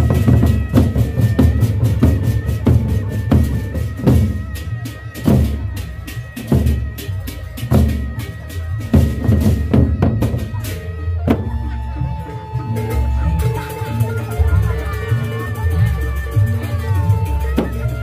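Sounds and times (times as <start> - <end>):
barrel drums in driving rhythm: 0.0 - 18.0.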